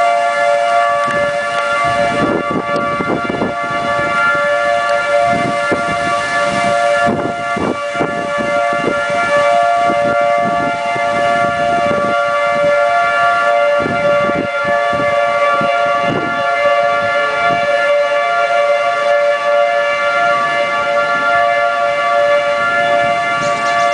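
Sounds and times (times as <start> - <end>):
warning siren multi-tone chord: 0.0 - 23.9
wind buffeting microphone: 0.0 - 23.9.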